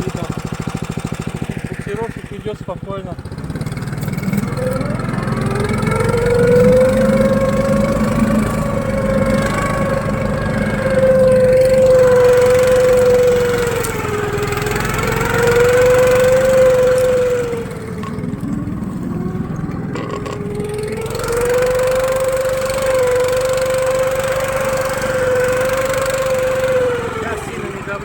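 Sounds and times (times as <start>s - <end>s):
snow tow engine running: 0.0s - 28.0s.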